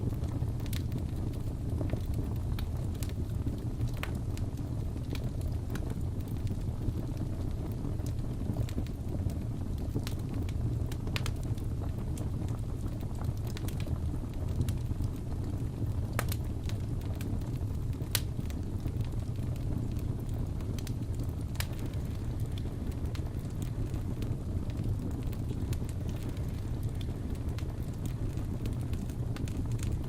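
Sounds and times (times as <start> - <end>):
low rumble of flames: 0.0 - 30.0
sharp pops and snaps of fire: 0.0 - 30.0
wood fire crackling: 0.0 - 30.0.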